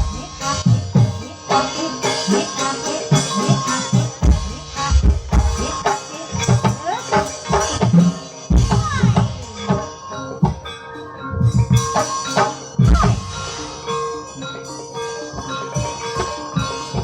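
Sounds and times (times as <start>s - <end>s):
struck metal instruments ringing: 0.0s - 17.0s.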